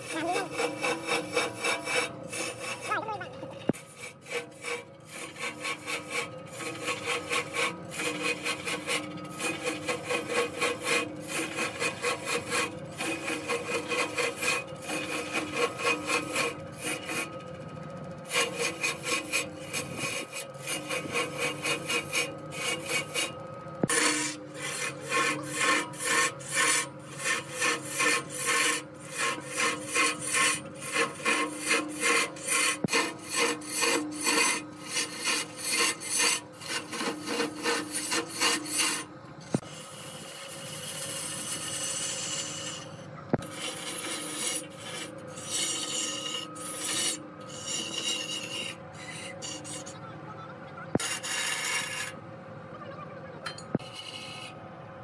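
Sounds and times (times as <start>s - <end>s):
pad rasping on spinning log: 0.0s - 50.1s, 50.9s - 52.2s, 53.5s - 54.6s
lathe hum: 0.0s - 52.7s.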